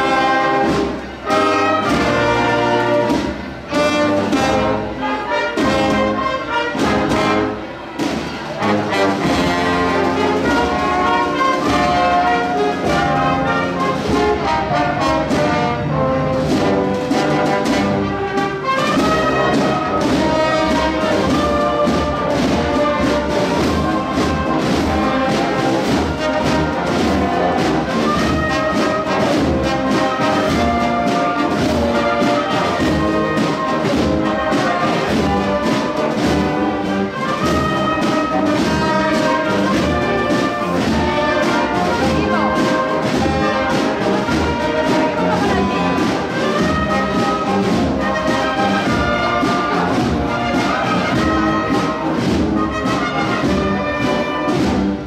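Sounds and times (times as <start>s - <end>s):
wind band playing a march: 0.0s - 55.0s.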